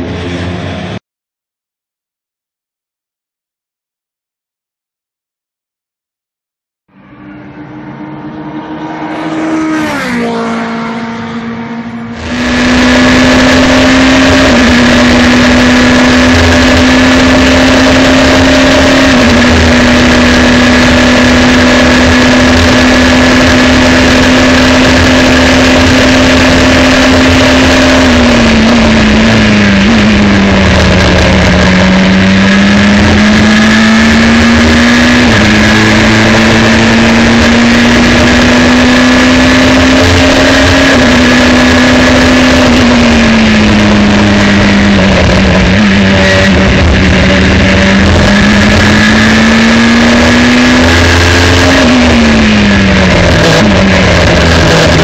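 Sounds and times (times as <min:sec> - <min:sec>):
race car engine at high speed: 0:00.0 - 0:01.0, 0:06.9 - 0:55.0
race car passing at speed: 0:06.9 - 0:55.0.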